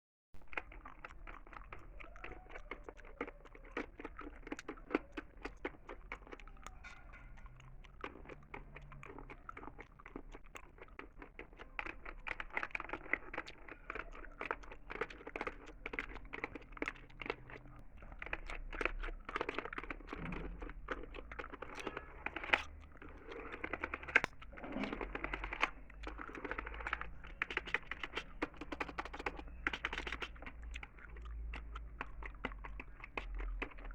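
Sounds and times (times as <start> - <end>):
gum chewing clicks and smacks: 0.4 - 33.9.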